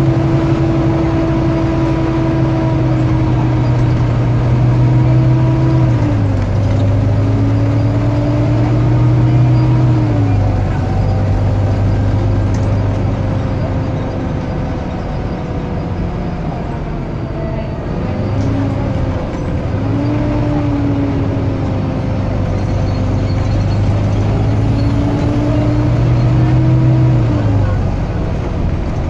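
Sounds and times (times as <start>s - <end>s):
bus diesel engine droning: 0.0s - 29.0s.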